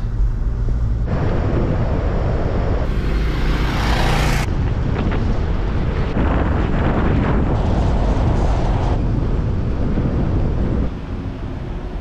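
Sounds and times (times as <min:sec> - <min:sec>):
car driving on road: 0:00.0 - 0:12.0.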